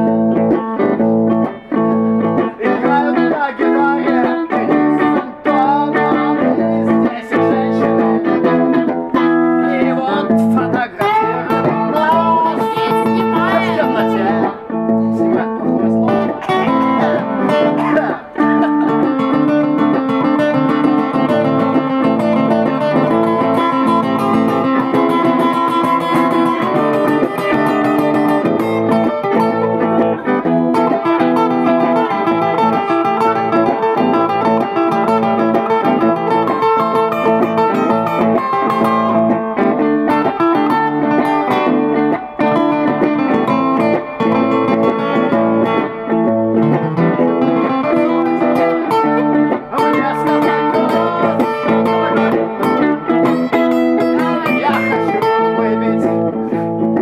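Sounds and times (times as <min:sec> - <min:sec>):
guitars playing blues: 0:00.0 - 0:57.0.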